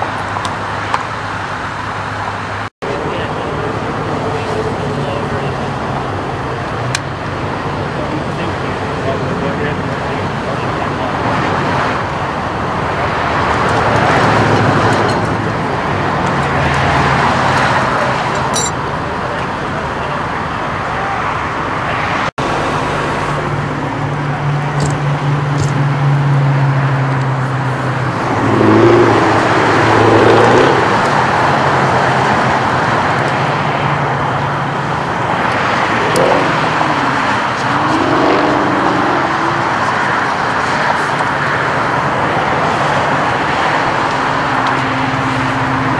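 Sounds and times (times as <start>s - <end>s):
freeway traffic noise: 0.0s - 45.9s.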